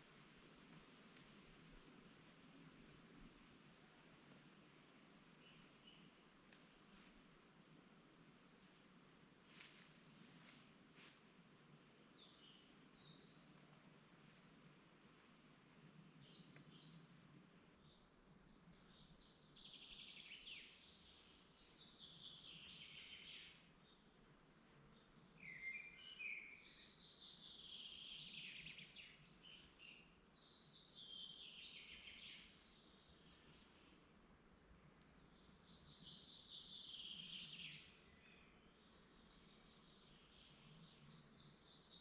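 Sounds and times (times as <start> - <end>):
songbird singing: 0.0 - 6.6, 11.3 - 14.0, 15.4 - 42.0
faint background hiss: 0.0 - 42.0.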